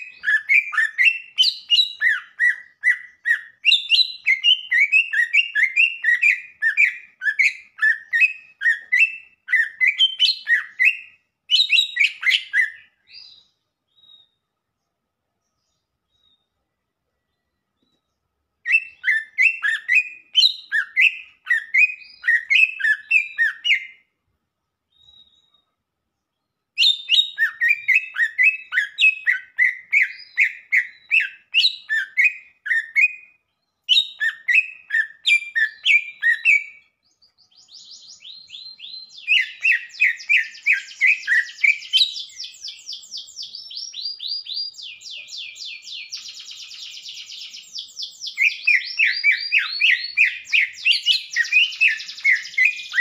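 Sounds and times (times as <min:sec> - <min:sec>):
bird singing chirping phrases: 0:00.0 - 0:53.0.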